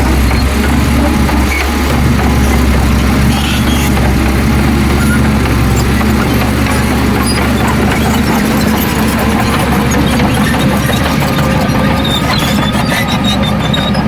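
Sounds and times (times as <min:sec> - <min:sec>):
heavy diesel machinery running: 0:00.0 - 0:14.0
metallic squeaks and clicks: 0:00.0 - 0:14.0.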